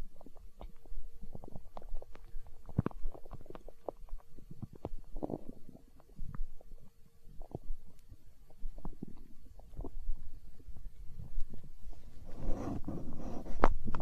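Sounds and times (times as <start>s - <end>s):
stomach gurgling and rumbling: 0.0s - 14.0s.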